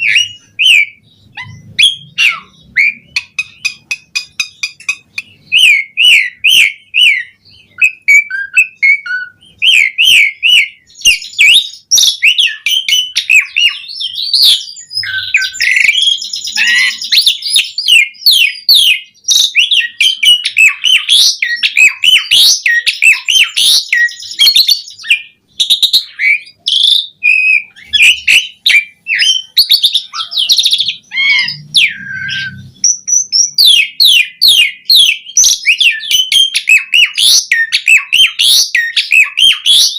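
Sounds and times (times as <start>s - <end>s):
starling singing varied song: 0.0s - 39.9s.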